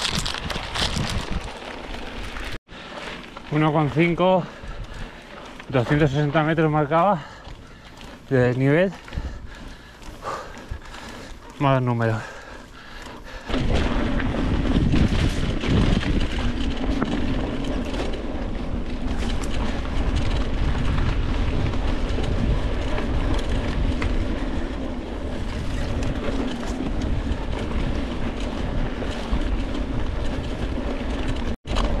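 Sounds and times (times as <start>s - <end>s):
bike rattles and clicks: 0.0s - 32.0s
bike tyres on loose dirt: 0.0s - 32.0s.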